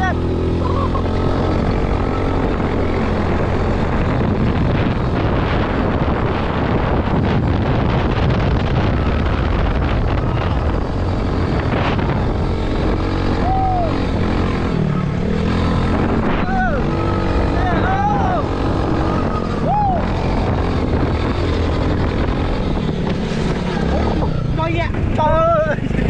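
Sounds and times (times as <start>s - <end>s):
dense rushing noise: 0.0s - 26.0s
quad bike engine running: 0.0s - 26.0s.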